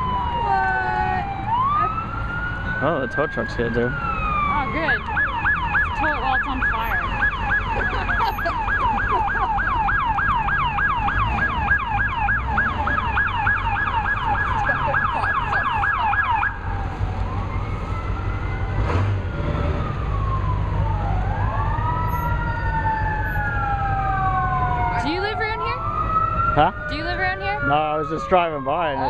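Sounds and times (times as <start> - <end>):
emergency siren yelp and wail: 0.0 - 29.0
low rumble of traffic: 0.0 - 29.0
second wailing siren: 0.0 - 29.0.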